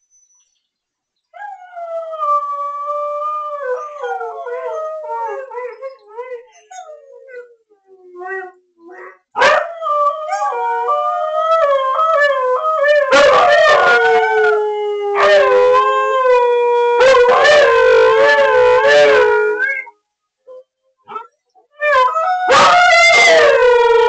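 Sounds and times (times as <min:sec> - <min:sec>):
dog howling: 0:01.4 - 0:19.9, 0:20.5 - 0:24.0.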